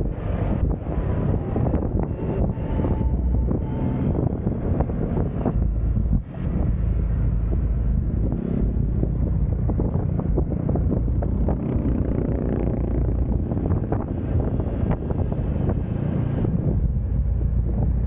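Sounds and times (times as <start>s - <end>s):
road noise: 0.0s - 18.0s
scooter engine drone: 0.0s - 18.0s
wind buffeting microphone: 0.0s - 18.0s.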